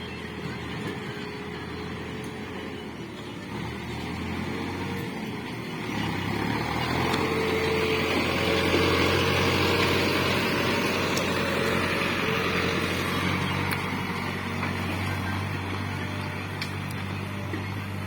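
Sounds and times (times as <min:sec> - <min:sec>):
tractor engine humming: 0:00.0 - 0:18.0.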